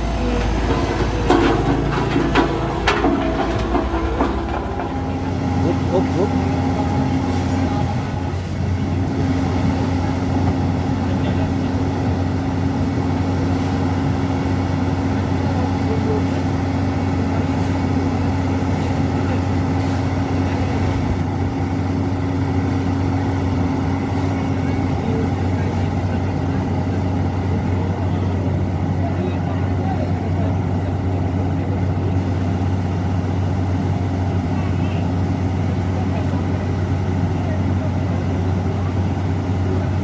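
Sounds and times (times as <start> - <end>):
vehicle engine humming: 0.0 - 40.0.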